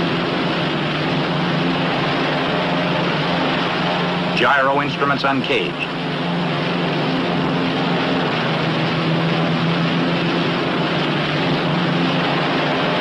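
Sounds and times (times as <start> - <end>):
aircraft radial engines running: 0.0 - 13.0.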